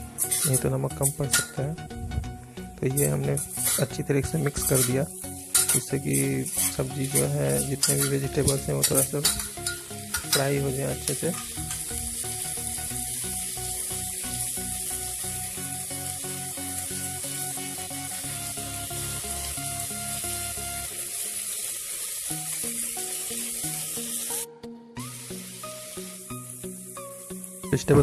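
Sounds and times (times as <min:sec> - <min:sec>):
electronic background music: 0:00.0 - 0:28.0
vegetables sizzling in oil: 0:00.0 - 0:28.0.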